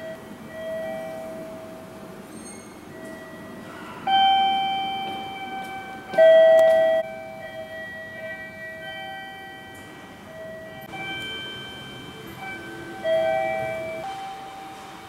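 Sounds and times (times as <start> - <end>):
electronic bell-like chime: 0.0 - 1.9, 2.9 - 15.0.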